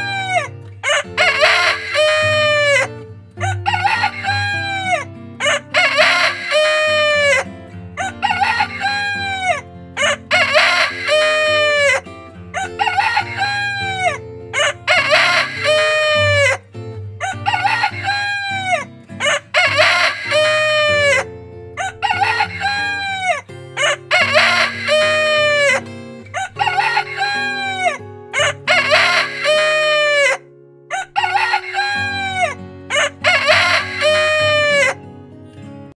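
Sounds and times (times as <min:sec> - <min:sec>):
roosters crowing: 0:00.0 - 0:07.4, 0:08.0 - 0:12.0, 0:12.6 - 0:16.6, 0:17.2 - 0:35.0.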